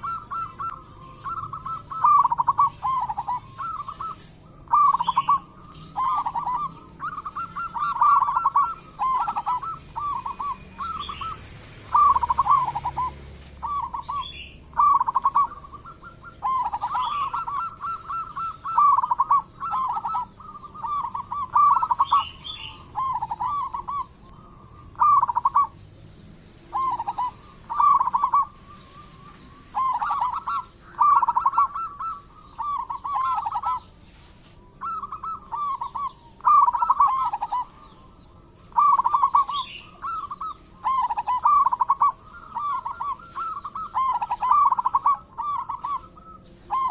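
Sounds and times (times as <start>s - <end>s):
dove cooing in trilled phrases: 0.0s - 25.8s, 26.6s - 34.1s, 34.7s - 46.9s
small birds chirping: 0.0s - 46.9s.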